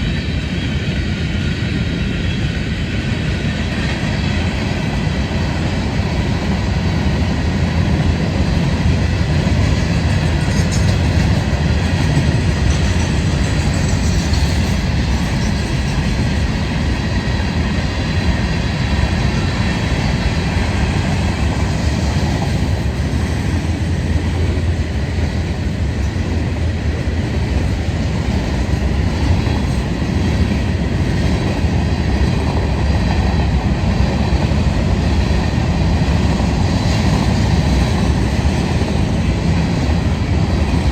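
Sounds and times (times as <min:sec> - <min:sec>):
train passing on tracks: 0:00.0 - 0:40.9.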